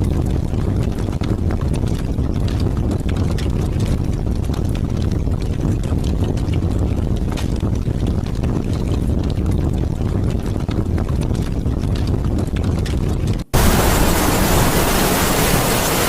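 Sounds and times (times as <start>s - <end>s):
rain drops pattering: 0.0s - 16.0s
wind rumble: 0.0s - 16.0s.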